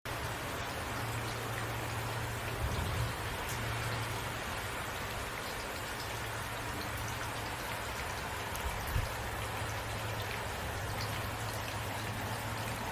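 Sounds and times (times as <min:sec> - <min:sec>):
steady rain hiss: 0:00.1 - 0:12.9
raindrop ticks: 0:01.0 - 0:12.9.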